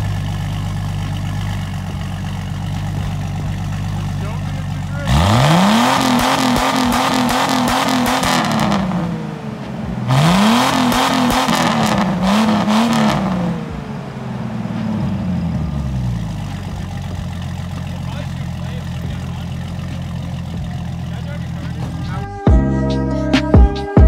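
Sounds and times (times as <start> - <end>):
car engine revving and idling: 0.0 - 22.5.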